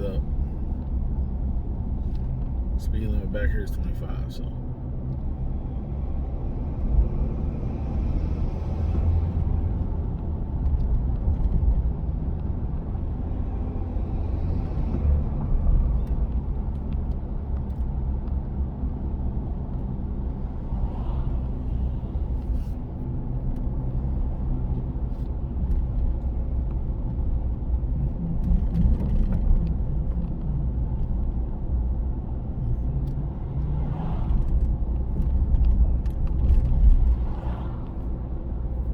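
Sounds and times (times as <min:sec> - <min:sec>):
diesel engine rumble inside cab: 0:00.0 - 0:38.9.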